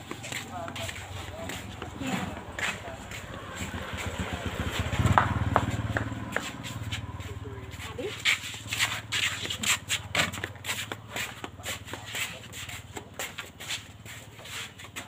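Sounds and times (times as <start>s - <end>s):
footsteps in sandals on concrete: 0.0s - 15.0s.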